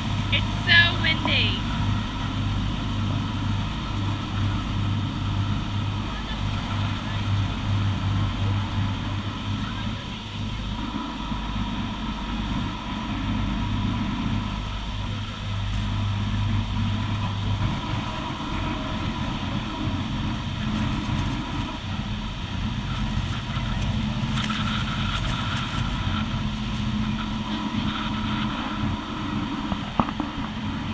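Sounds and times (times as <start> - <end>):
boat engine humming: 0.0 - 30.9
water rushing: 0.0 - 30.9.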